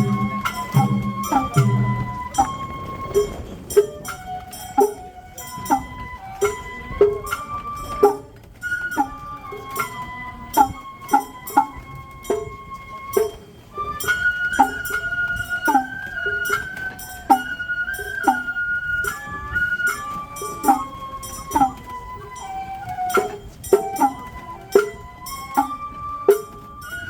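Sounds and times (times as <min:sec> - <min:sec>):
bamboo flute melody: 0:00.0 - 0:27.0
percussion strikes: 0:00.0 - 0:27.0.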